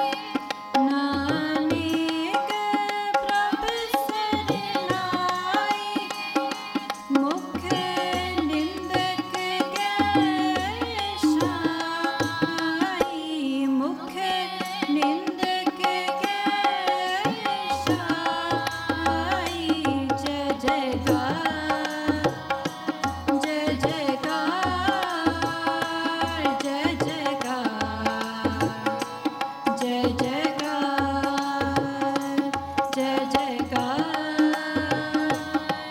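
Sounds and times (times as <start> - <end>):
harmonium chords: 0.0 - 35.9
tabla playing: 0.0 - 35.9
women singing together: 0.0 - 35.9.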